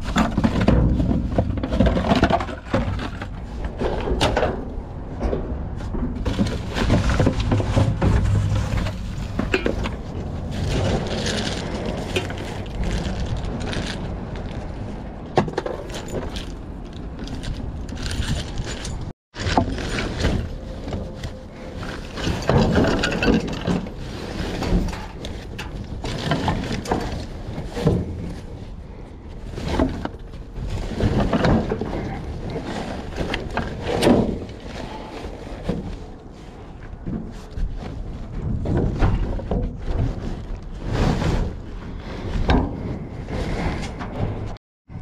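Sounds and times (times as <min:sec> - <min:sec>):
rummaging in a dumpster: 0:00.0 - 0:45.0.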